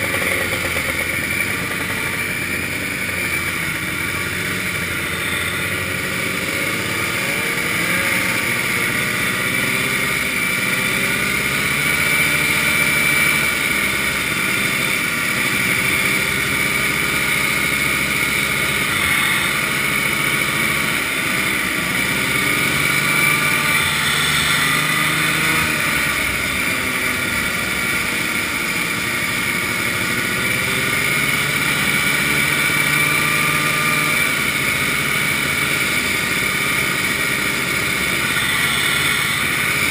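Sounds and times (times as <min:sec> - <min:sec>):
other snowmobile engines: 0:00.0 - 0:39.9
snowmobile engine running: 0:00.0 - 0:39.9.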